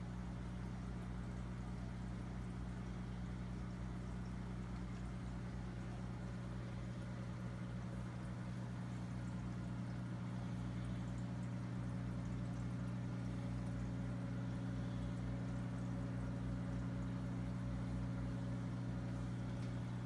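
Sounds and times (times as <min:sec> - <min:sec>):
air stone bubbling water: 0:00.0 - 0:20.0
aquarium low hum: 0:00.0 - 0:20.0.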